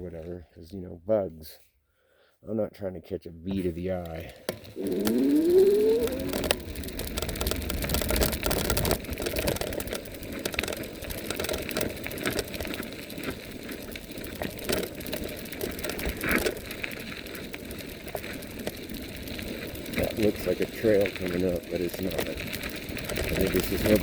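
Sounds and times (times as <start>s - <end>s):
fast clicking rattle from bike: 3.9s - 24.0s
tyre noise: 4.5s - 24.0s
wind rumbling on microphone: 4.7s - 24.0s.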